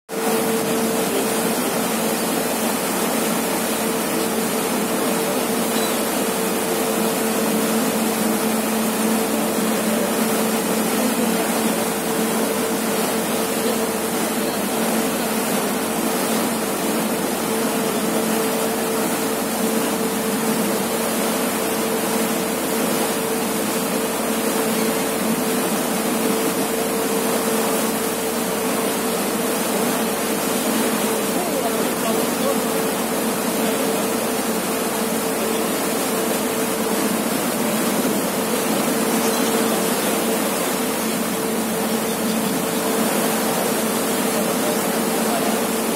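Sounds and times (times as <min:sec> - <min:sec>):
propeller wake rushing: 0:00.1 - 0:45.9
ferry engine hum: 0:00.2 - 0:45.9.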